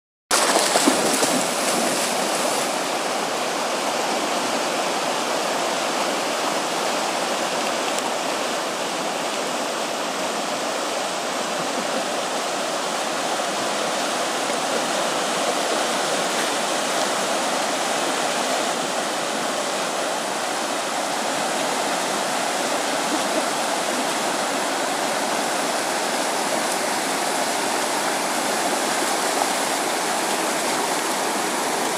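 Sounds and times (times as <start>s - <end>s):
river water rushing over rapids: 0.3s - 31.9s.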